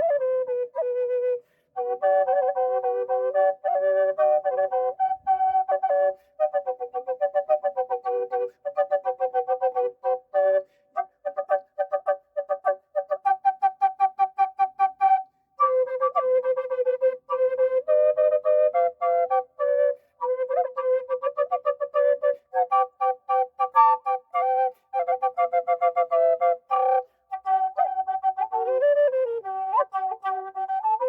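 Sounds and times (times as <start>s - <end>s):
drone flute melody: 0.0s - 31.0s.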